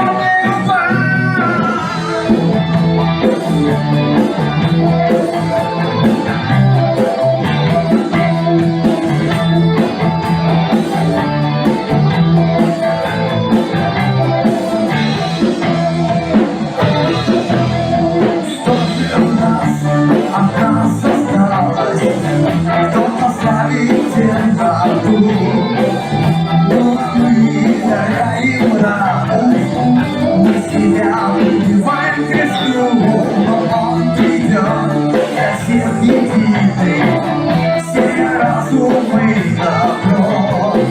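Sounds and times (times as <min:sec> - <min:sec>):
bass line: 0:00.0 - 0:40.9
drums: 0:00.0 - 0:40.9
electric guitars: 0:00.0 - 0:40.9.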